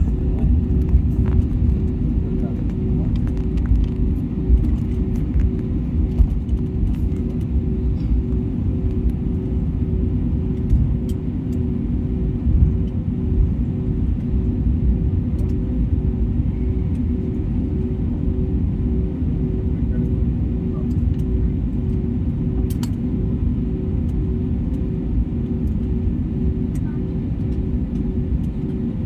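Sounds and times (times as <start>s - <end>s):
airliner engines taxiing: 0.0s - 29.0s.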